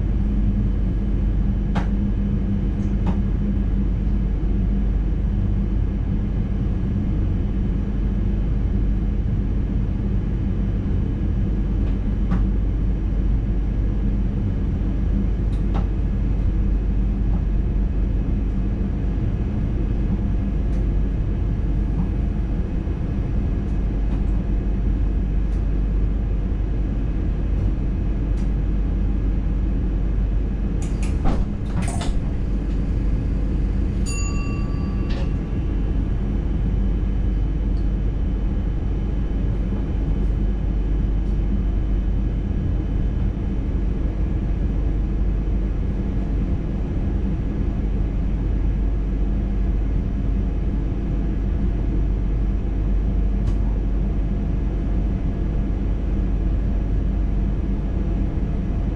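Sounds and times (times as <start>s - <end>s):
train rumble with whine: 0.0s - 58.9s.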